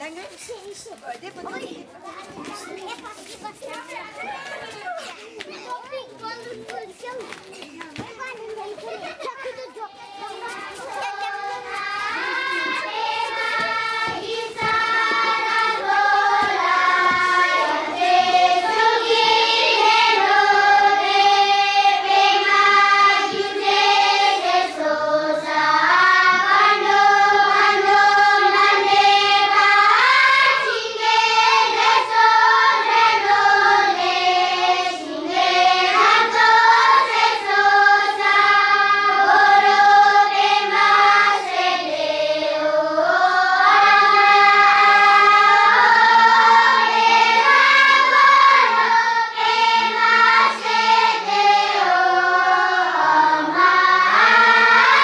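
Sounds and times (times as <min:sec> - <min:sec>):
children singing: 0:09.2 - 0:55.0.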